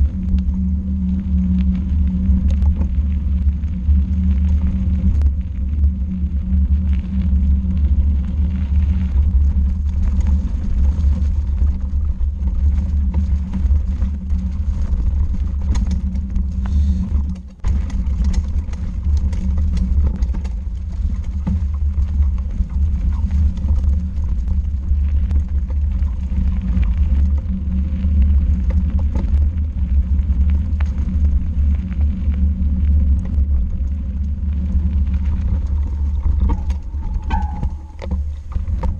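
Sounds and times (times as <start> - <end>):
riding on gravel track rumble: 0.0 - 38.9
wind buffeting camera: 0.0 - 38.9.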